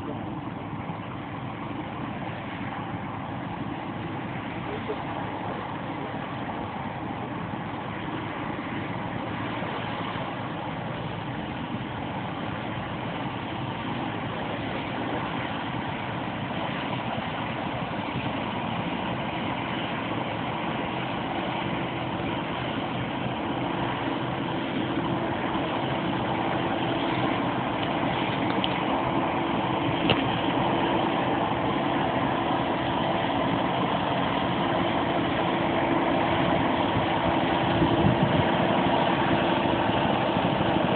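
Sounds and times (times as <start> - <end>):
combine harvester running: 0.0 - 40.9
steady hum: 0.0 - 40.9.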